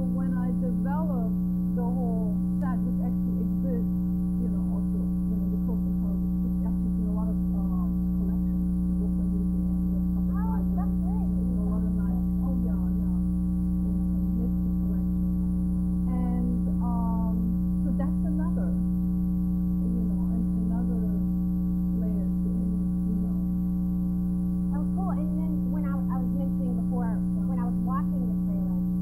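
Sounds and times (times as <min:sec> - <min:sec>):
faint conversation: 0:00.0 - 0:29.0
loud electrical hum: 0:00.0 - 0:29.0.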